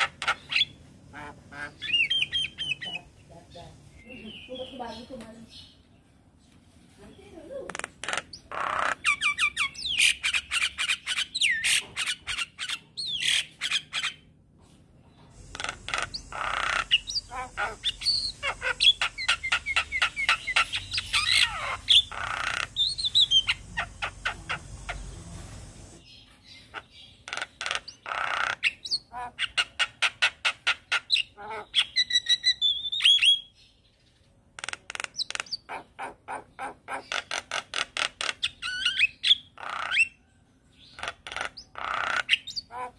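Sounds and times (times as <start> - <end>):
bird singing and chattering: 0.0 - 5.9, 7.1 - 14.3, 15.1 - 42.9.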